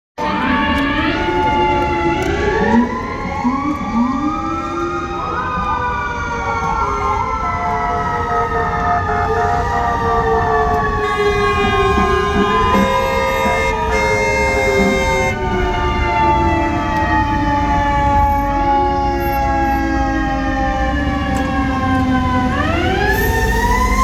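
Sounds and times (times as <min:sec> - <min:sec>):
fire truck sirens wailing: 0:00.2 - 0:24.0.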